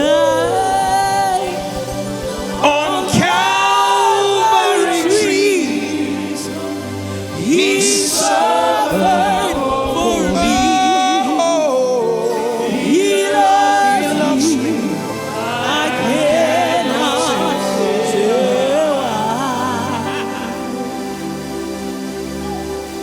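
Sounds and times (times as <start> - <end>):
church choir singing gospel: 0.0 - 23.0.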